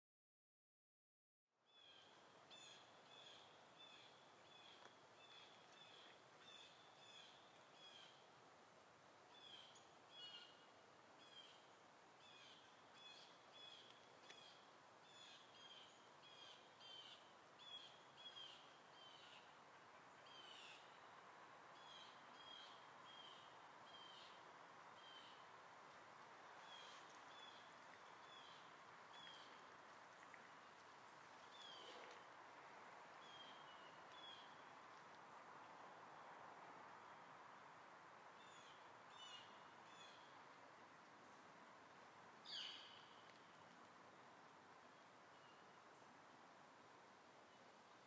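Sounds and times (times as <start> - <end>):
soft background noise: 1.6 - 48.0.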